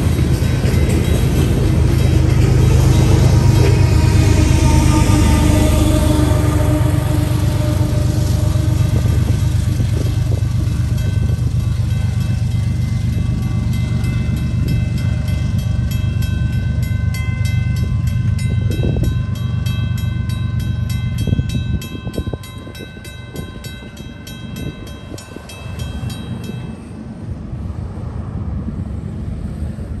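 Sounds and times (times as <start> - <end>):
crossing bell dinging: 0.0 - 27.4
low train rumble: 0.0 - 30.0.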